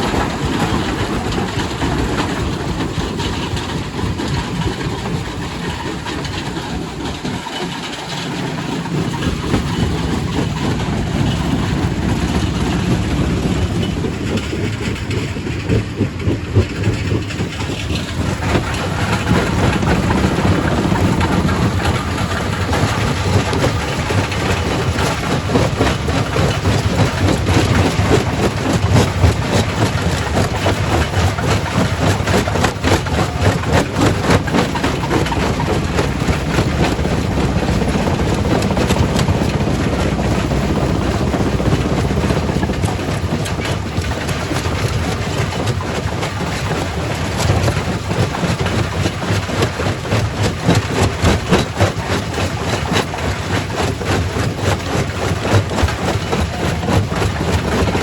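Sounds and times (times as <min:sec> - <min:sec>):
rock crusher rumbling: 0:00.0 - 0:58.0.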